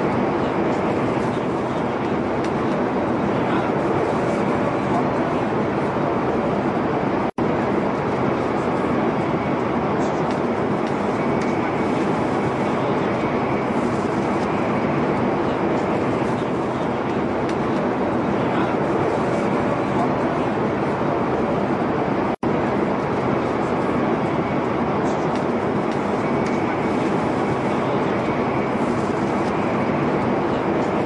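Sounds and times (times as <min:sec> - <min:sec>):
metro train rumble: 0:00.0 - 0:31.0.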